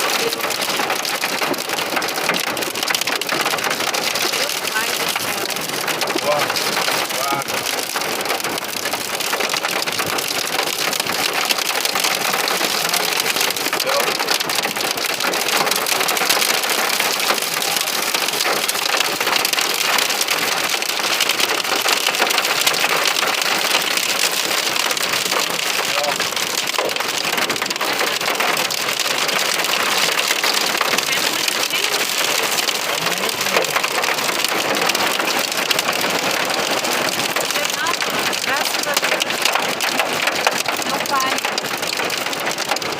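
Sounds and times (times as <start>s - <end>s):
heavy rain on hard surface: 0.0s - 42.9s.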